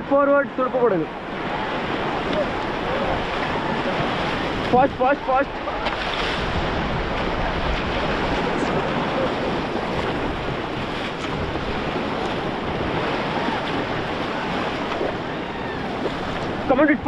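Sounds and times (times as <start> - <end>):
rushing river rapid water: 0.0 - 17.0.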